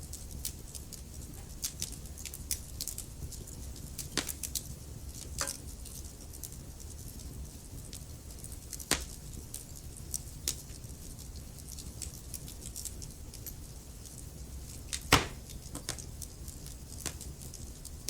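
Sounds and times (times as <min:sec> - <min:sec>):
fire popping and snapping: 0:00.0 - 0:18.0
wood fire crackling: 0:00.0 - 0:18.0.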